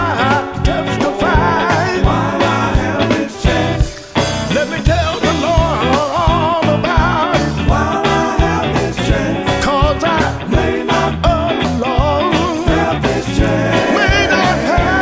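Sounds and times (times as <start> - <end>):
band with bass and beat: 0.0 - 15.0
lead voice singing with vibrato: 0.0 - 15.0.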